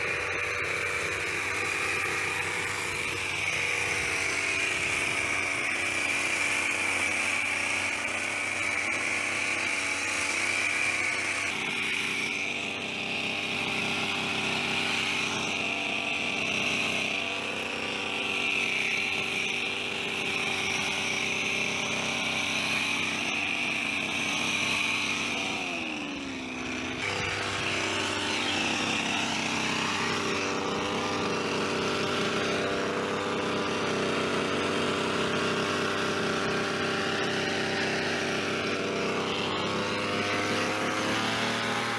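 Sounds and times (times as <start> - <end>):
hedge trimmer engine running: 0.0 - 41.9.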